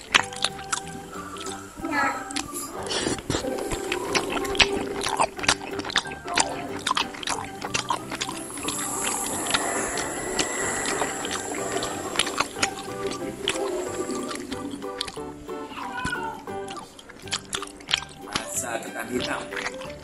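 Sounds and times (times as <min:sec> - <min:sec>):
ice cream licking and slurping: 0:00.0 - 0:20.0.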